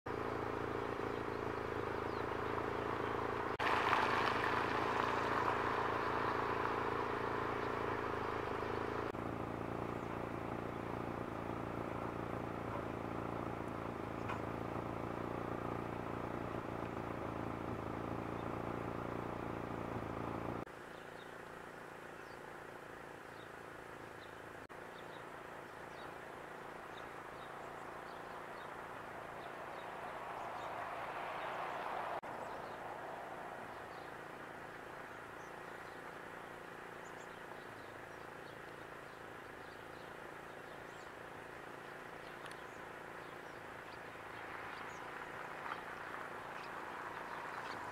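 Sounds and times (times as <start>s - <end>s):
engine hum: 0.0s - 47.9s
outdoor background noise: 0.0s - 47.9s
small birds chirping: 0.1s - 3.6s, 4.4s - 47.9s.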